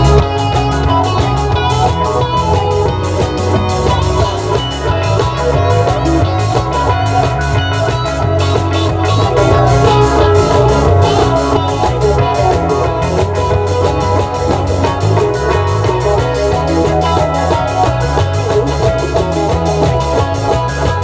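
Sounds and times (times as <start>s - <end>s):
band playing rock music: 0.0s - 21.0s.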